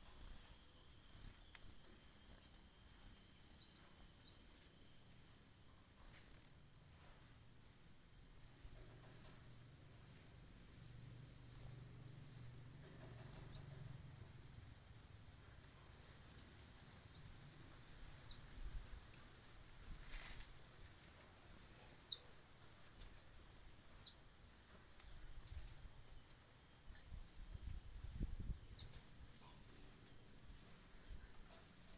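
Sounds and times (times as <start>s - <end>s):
steady high-pitched drone: 0.0s - 19.8s, 20.9s - 31.9s.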